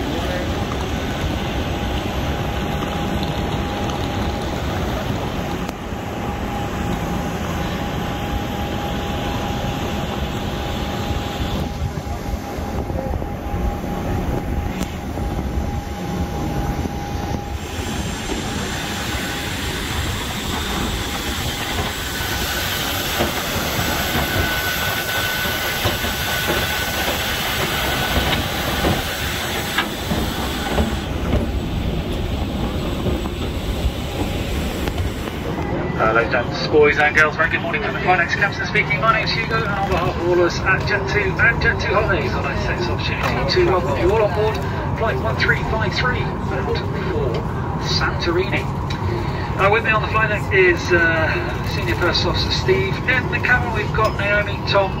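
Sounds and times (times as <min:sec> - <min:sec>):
airport machinery roar: 0:00.0 - 0:55.0
thin steady whine: 0:00.1 - 0:55.0.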